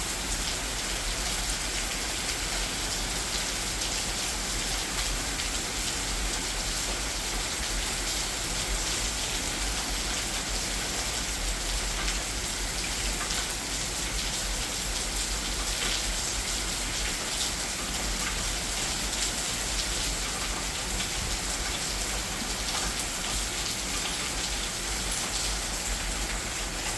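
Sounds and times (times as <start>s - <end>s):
heavy rain: 0.0s - 26.9s.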